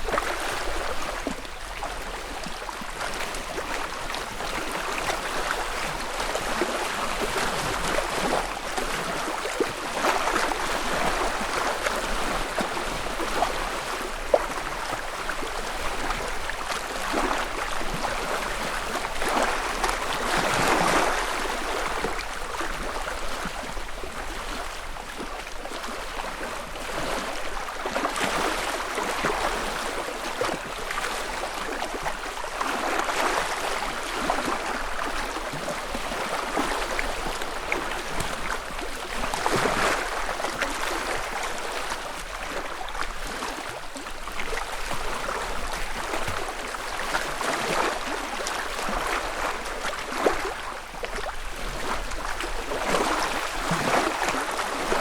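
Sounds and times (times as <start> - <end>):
lake waves lapping on shore: 0.0 - 55.0.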